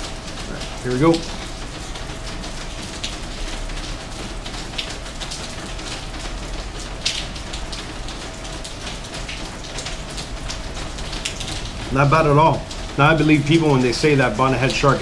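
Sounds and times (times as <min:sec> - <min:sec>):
light rain patter: 0:00.0 - 0:15.0.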